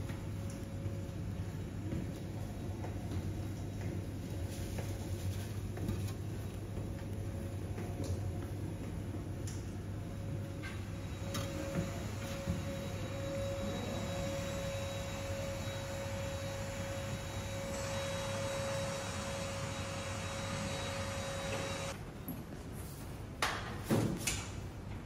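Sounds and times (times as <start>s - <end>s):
machine running with a whine: 0.0s - 22.0s.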